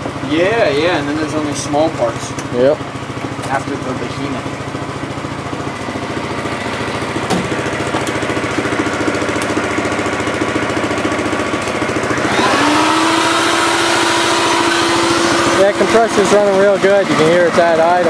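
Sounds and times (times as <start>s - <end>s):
air compressor engine pulsing: 0.0s - 18.0s.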